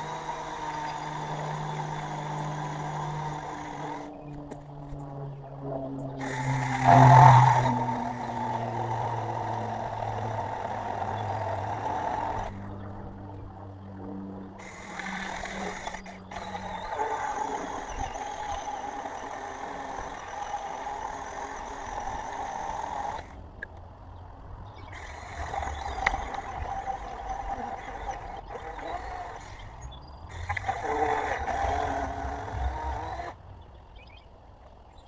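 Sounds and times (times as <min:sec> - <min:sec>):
electric chainsaw whining: 0:00.0 - 0:23.7, 0:24.7 - 0:34.1.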